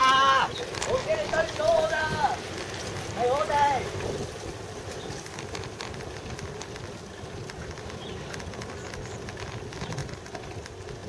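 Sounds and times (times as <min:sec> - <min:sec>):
bicycle rolling on pavement: 0:00.0 - 0:11.0
bike clicks and rattles: 0:00.0 - 0:11.0
wind noise: 0:00.0 - 0:11.0.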